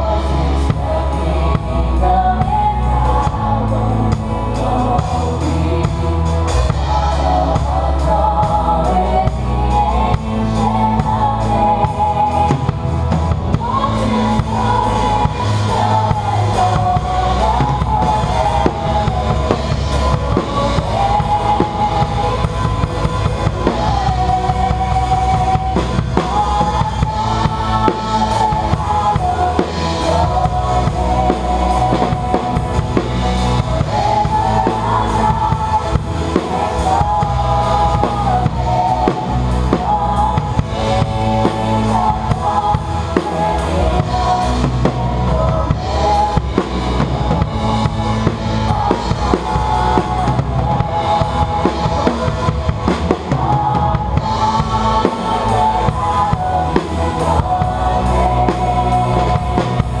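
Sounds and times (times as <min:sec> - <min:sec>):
band melody line: 0:00.0 - 1:00.0
drum kit playing a beat: 0:00.0 - 1:00.0.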